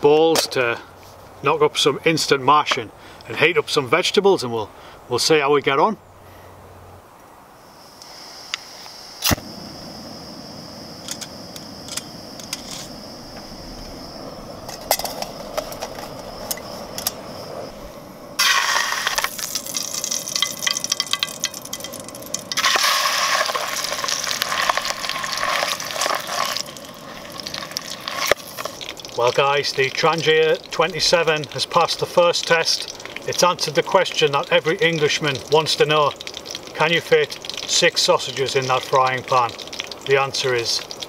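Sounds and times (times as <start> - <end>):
gas burner hissing: 7.6 - 41.0
sausages sizzling in oil: 7.6 - 41.0.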